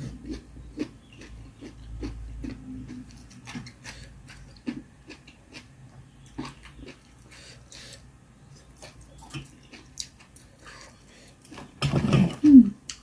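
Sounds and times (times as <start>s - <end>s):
person chewing food: 0.0s - 11.7s.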